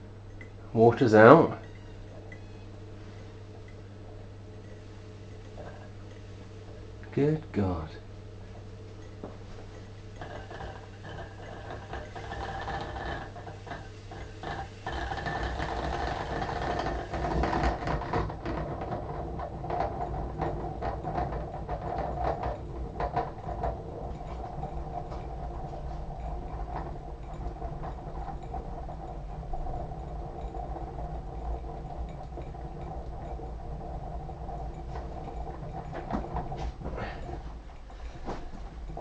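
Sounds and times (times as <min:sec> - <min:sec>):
coffee maker bubbling and crackling: 0:00.0 - 0:39.0.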